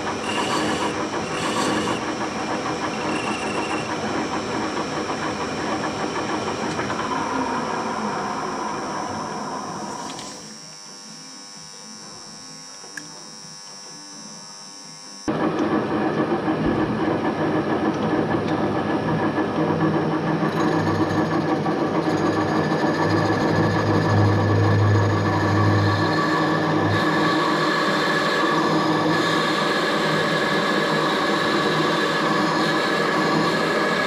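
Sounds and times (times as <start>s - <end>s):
loud mechanical running rumble: 0.0s - 10.5s, 15.3s - 34.0s
lathe running: 0.0s - 10.6s, 15.3s - 34.0s.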